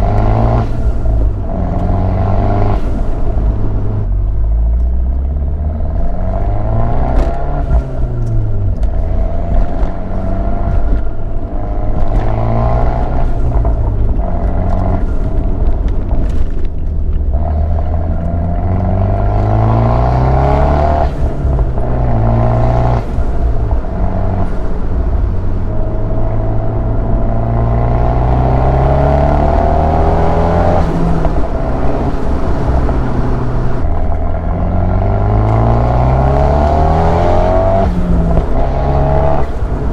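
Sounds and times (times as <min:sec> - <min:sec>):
car engine revving: 0:00.0 - 0:39.9
exhaust cracks: 0:00.0 - 0:39.9.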